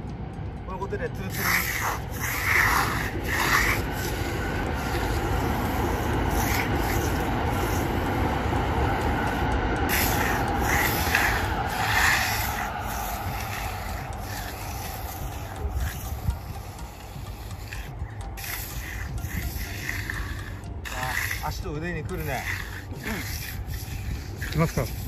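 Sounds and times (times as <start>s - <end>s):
steady low rumble: 0.0s - 25.0s
trowel scraping wet concrete: 1.2s - 8.0s, 9.9s - 25.0s.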